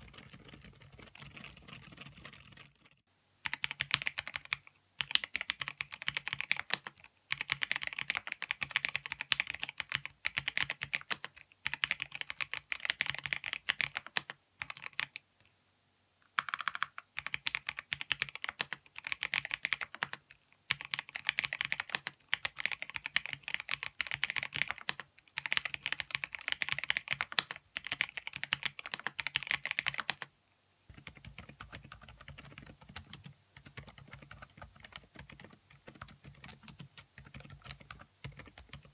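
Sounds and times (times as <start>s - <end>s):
typing on mechanical keyboard: 0.0s - 2.9s, 3.5s - 15.2s, 16.4s - 30.3s, 30.9s - 38.9s.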